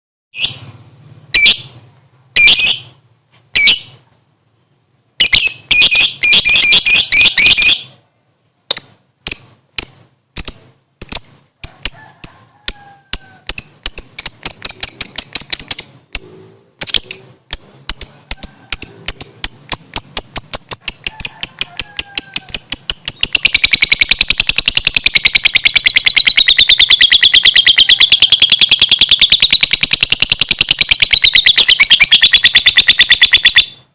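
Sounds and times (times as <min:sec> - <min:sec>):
lovebird shrill chirps: 0:00.4 - 0:00.6, 0:01.3 - 0:01.8, 0:02.4 - 0:03.0, 0:03.6 - 0:04.0, 0:05.2 - 0:07.9, 0:08.7 - 0:33.9.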